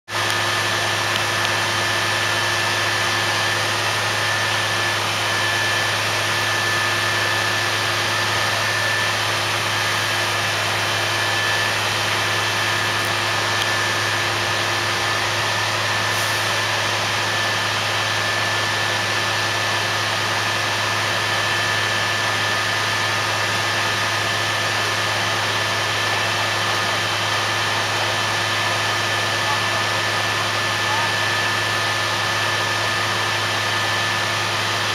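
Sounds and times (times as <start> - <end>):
steady high tone: 0.1 - 32.7
drilling rig machine hum: 0.1 - 34.9.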